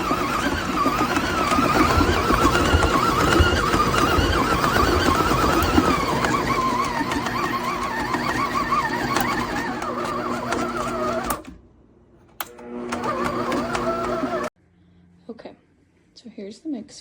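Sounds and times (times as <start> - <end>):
stand mixer motor whining: 0.0 - 11.6, 12.4 - 14.5.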